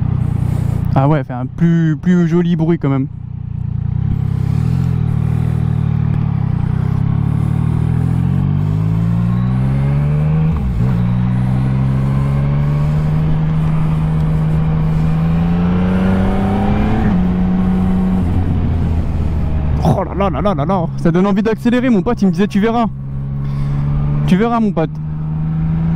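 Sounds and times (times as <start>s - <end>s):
gear change: 0.0s - 25.9s
motorcycle engine accelerating: 0.0s - 25.9s.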